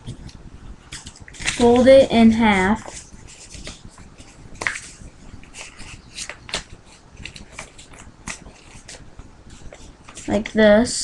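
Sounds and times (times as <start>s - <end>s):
paper being folded and creased: 0.1s - 11.0s.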